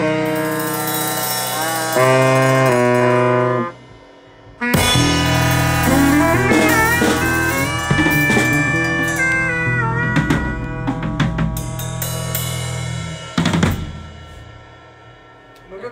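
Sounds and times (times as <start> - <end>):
drum kit playing: 0.0 - 15.9
electric bass line: 0.0 - 15.9
loud drum kit hit ringing: 0.0 - 15.9
trombone long sliding notes: 0.0 - 15.9.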